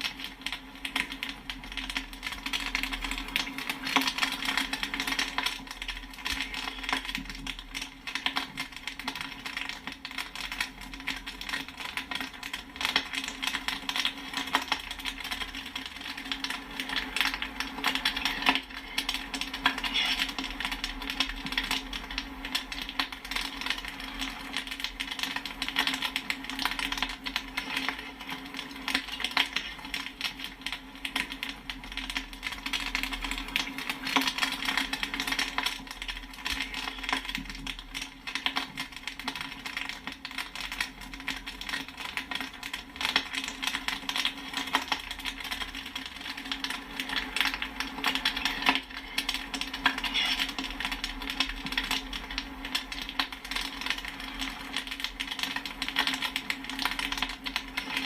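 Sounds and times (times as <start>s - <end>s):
popcorn popping: 0.0s - 58.0s.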